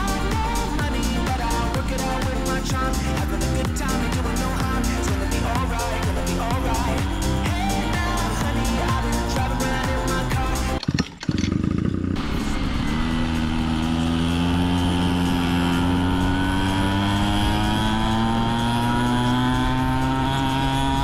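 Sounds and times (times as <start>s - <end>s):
pocket bike engine running: 0.0s - 21.0s.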